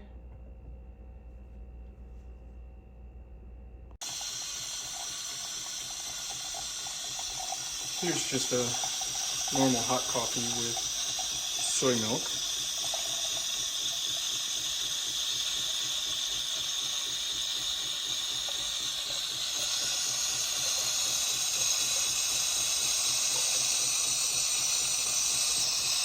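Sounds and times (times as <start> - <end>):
coffee machine steam hiss: 4.0 - 26.0.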